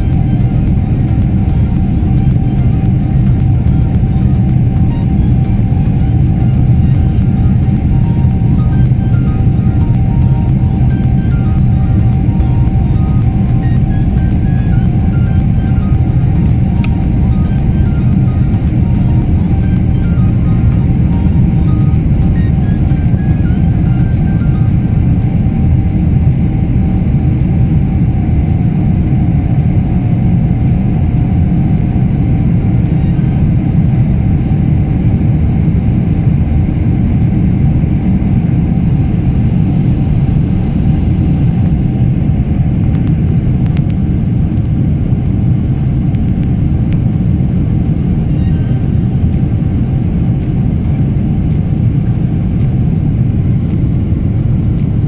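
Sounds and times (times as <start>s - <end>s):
faint high hum: 0.0s - 55.0s
jet engines roaring in cabin: 0.0s - 55.0s.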